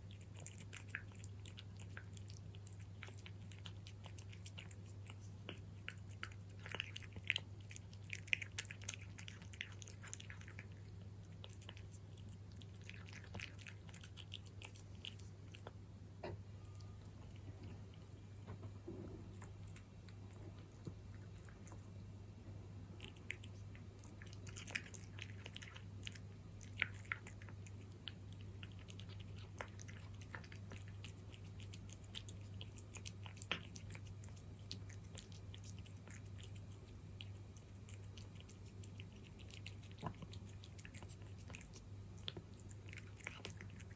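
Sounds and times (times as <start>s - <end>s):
cat chewing food: 0.0s - 43.9s.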